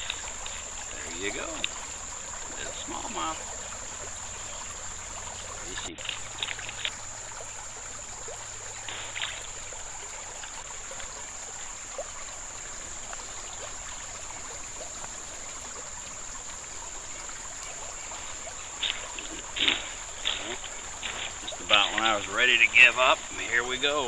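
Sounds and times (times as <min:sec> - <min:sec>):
high-pitched hiss: 0:00.0 - 0:07.0, 0:08.8 - 0:10.4, 0:11.1 - 0:24.0
river water rushing and trickling: 0:00.0 - 0:24.0.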